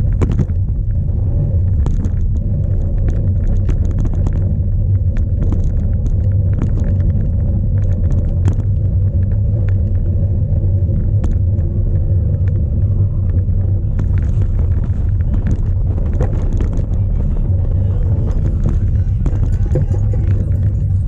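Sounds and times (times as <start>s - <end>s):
bike clicks and rattles: 0.0s - 21.0s
bike tyres on the ground: 0.0s - 21.0s
wind rumble on microphone: 0.0s - 21.0s.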